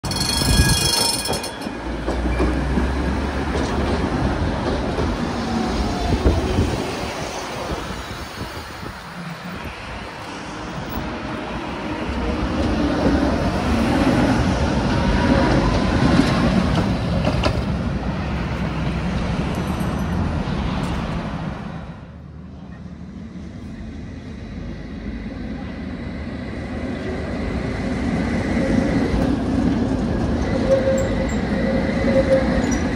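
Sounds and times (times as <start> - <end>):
tram high whine: 0.0 - 32.9
tram rumbling on rails: 0.0 - 32.9.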